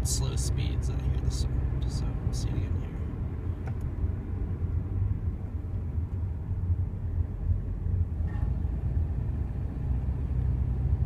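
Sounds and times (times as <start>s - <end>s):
faint groaning noise from car: 0.0s - 9.6s
car driving with low rumble: 0.0s - 11.0s.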